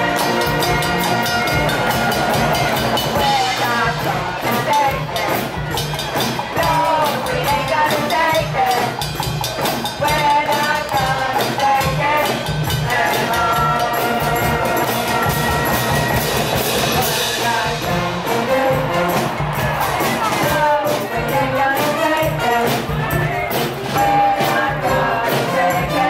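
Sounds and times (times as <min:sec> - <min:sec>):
street band playing: 0:00.0 - 0:26.0.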